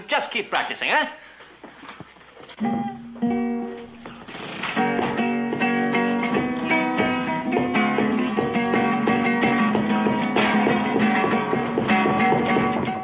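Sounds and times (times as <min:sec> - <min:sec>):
acoustic guitar playing: 0:02.5 - 0:13.0.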